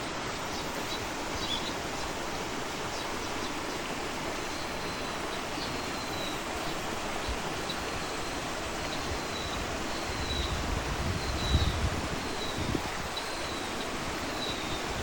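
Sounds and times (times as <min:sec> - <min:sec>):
steady rushing wash: 0:00.0 - 0:15.0.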